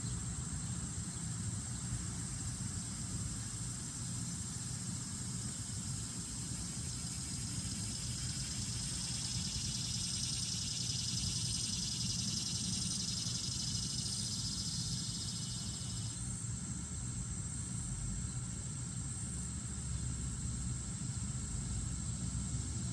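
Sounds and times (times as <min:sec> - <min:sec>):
high insect drone: 0:00.0 - 0:22.9.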